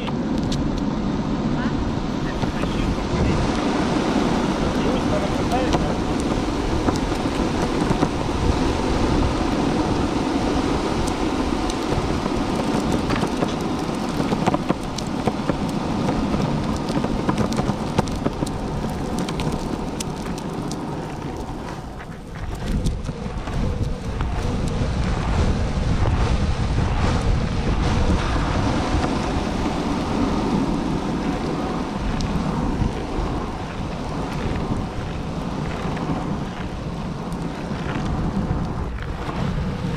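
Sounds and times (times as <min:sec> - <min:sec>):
skateboard wheels rolling on pavement: 0:00.0 - 0:39.9
wind on microphone: 0:00.0 - 0:39.9.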